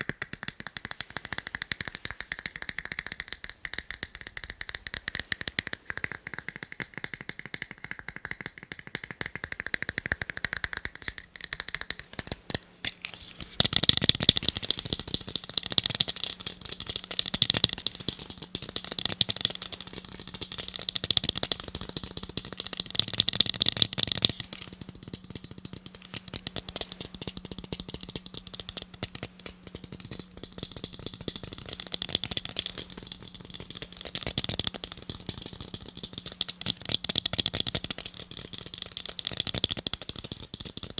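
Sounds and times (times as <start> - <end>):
fingernails tapping on eyeglasses: 0.0 - 40.9.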